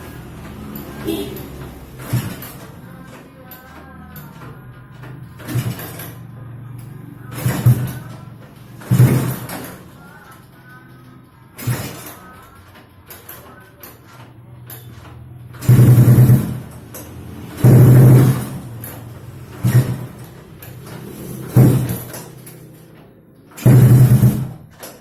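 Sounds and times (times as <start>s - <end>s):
motorcycle engine idling and revving: 0.0s - 9.9s, 14.3s - 24.8s.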